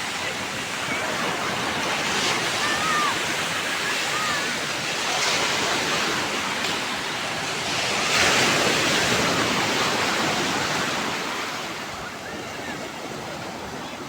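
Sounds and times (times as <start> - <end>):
waves crashing on shore: 0.0 - 14.0.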